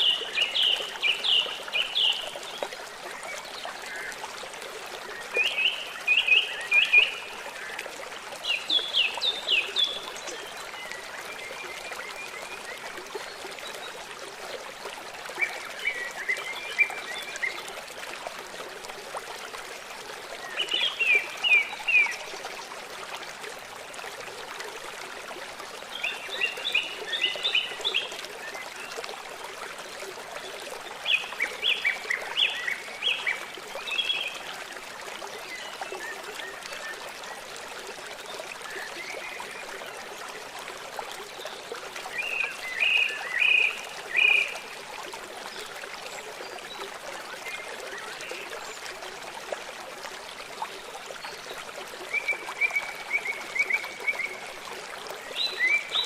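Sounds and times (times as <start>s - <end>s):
river water running: 0.0s - 56.0s.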